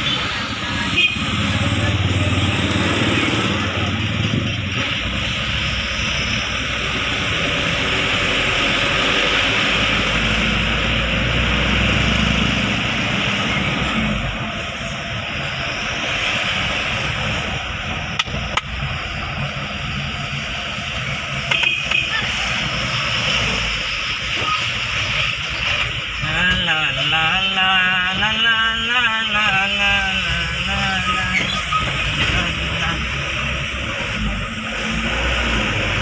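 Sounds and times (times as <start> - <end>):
diesel truck engine running: 0.0 - 36.0
tyre and road rush: 0.0 - 36.0.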